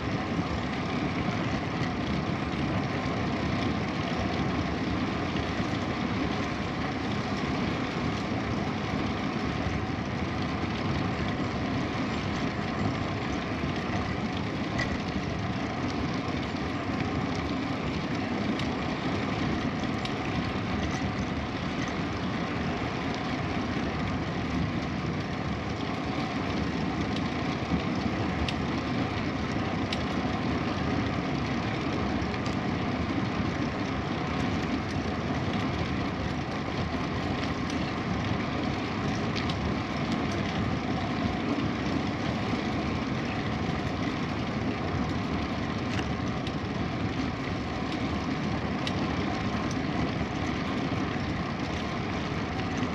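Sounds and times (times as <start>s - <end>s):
bicycle tyres rolling on path: 0.0s - 52.9s.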